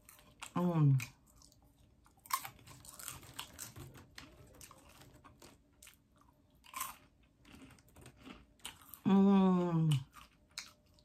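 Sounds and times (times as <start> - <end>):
popcorn being chewed: 0.0 - 11.0.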